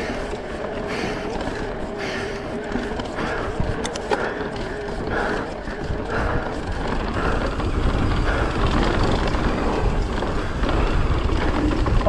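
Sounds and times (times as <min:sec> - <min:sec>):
bike rattling: 0:00.0 - 0:12.0
bike tyres on dirt and rocks: 0:00.0 - 0:12.0.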